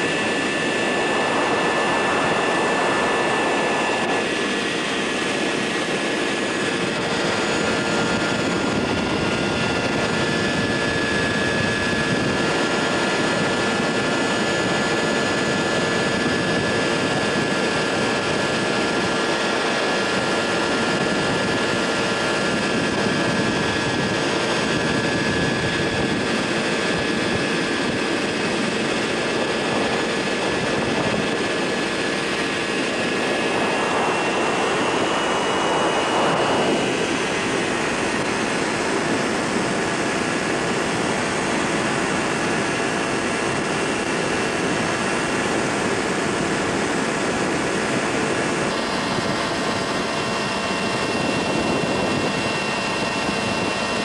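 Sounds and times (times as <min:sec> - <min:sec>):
engine and propeller running: 0:00.0 - 0:54.0
wind rushing over microphone: 0:00.0 - 0:54.0.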